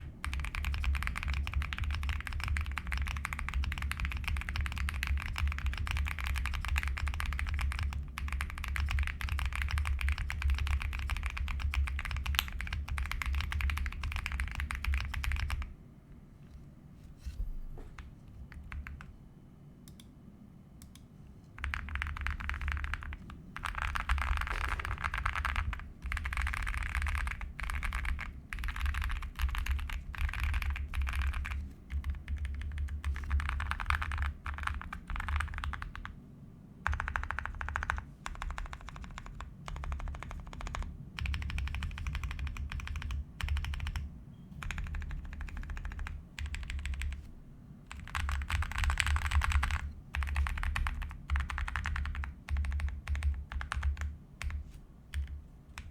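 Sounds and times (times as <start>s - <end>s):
mechanical keyboard typing: 0.0s - 15.7s, 18.0s - 19.1s, 21.6s - 36.2s, 36.8s - 47.3s, 47.9s - 55.9s.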